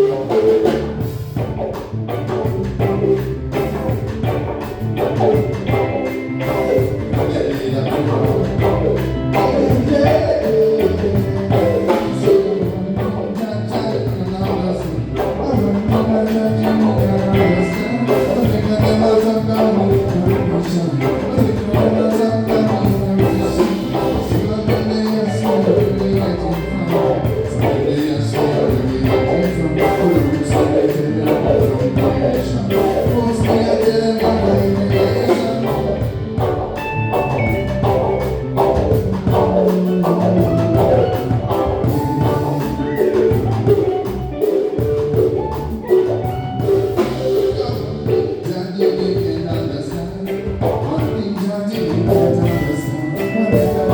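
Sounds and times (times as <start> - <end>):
person singing: 0.0 - 1.4, 2.8 - 53.9
live band playing: 0.0 - 53.9.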